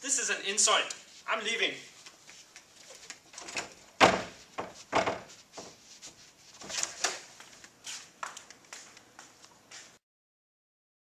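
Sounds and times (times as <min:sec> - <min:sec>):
footsteps walking: 0:00.6 - 0:10.0.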